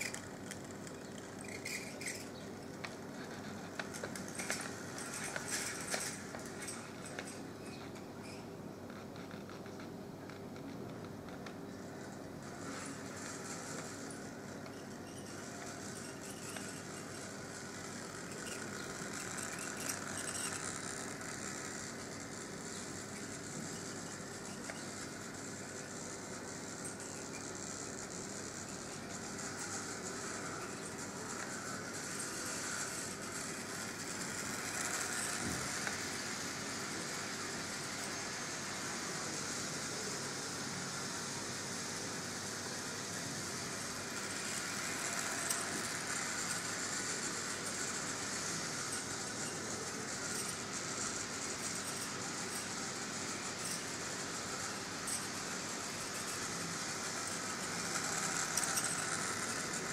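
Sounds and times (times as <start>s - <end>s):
model train motor whirring: 0.0s - 59.9s
wheels running on rails: 0.0s - 59.9s.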